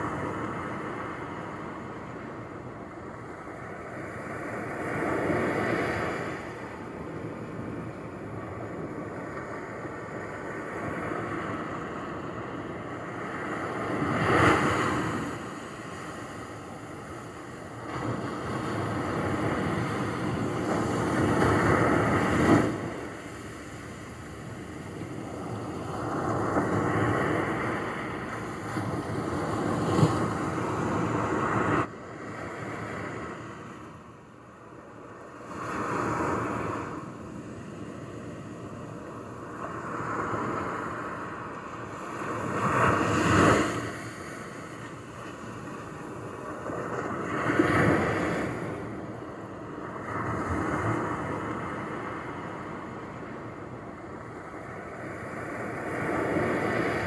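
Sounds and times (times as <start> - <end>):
small waves washing ashore: 0.0 - 57.0.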